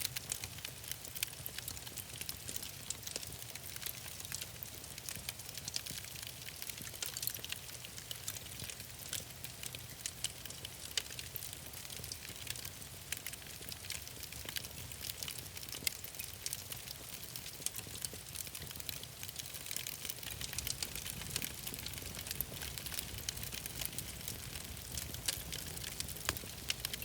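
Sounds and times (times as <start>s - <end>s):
wood fire crackling: 0.1s - 27.0s.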